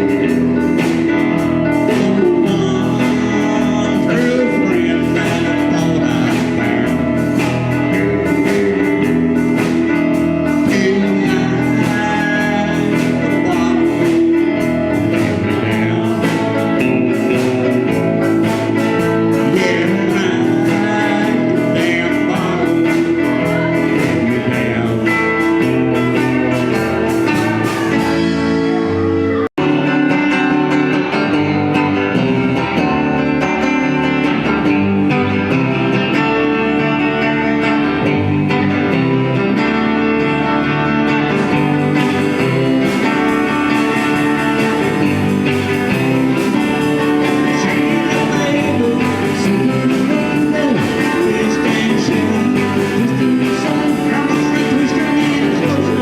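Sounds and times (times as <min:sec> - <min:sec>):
blues band with guitar: 0:00.0 - 0:56.0.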